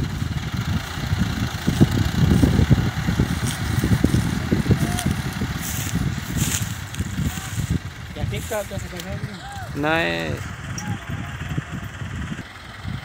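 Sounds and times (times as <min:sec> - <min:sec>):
tractor diesel engine rumbling: 0:00.0 - 0:13.0.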